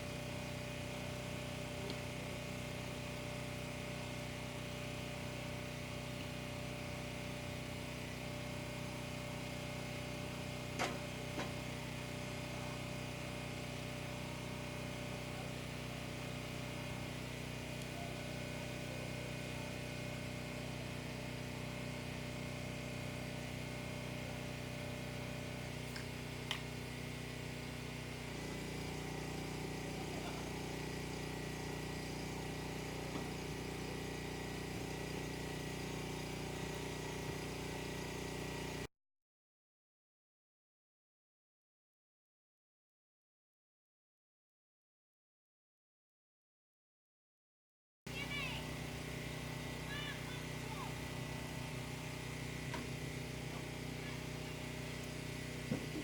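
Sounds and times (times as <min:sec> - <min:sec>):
engine humming: 0:00.0 - 0:38.9, 0:48.1 - 0:56.0.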